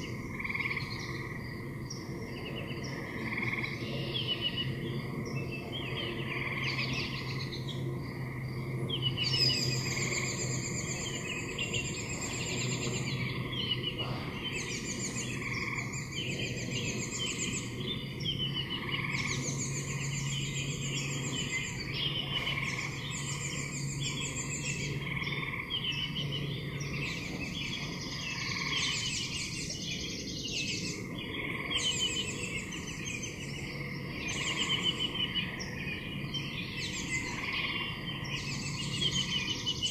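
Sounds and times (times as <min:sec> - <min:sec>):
animals calling in rapid trills: 0:00.0 - 0:39.9
steady low hum: 0:00.0 - 0:39.9.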